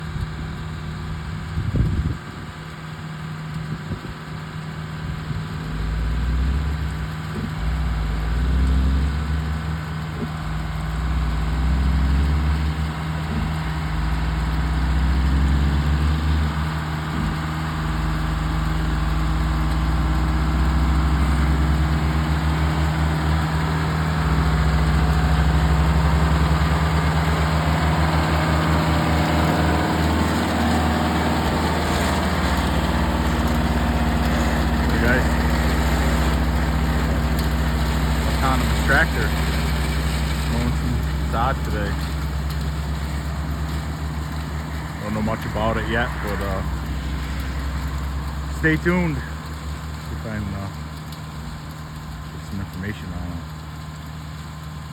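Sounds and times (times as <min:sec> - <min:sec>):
tractor engine mowing grass: 0:00.0 - 0:54.9.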